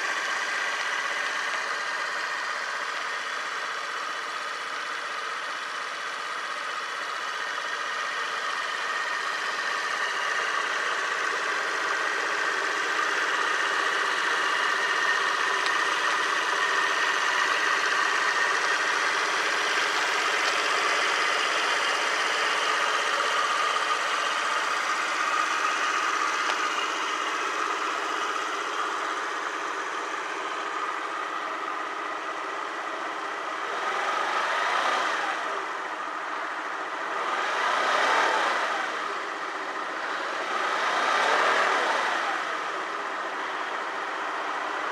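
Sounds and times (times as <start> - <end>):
scooter engine idling and revving: 0.0 - 44.9.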